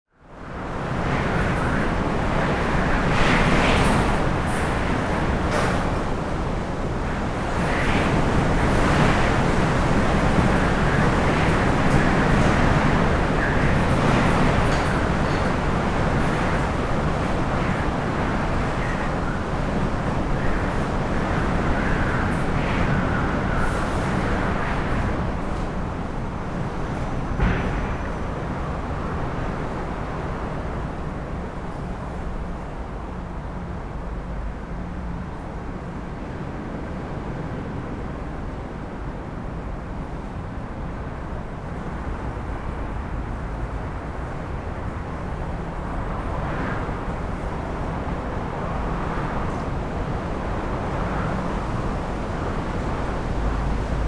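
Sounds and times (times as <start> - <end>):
strong wind gusts: 0.2 - 54.0.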